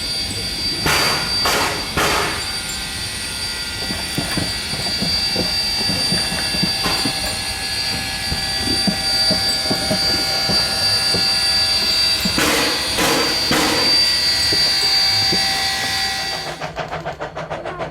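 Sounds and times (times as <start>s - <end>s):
steady high whine: 0.0s - 16.8s.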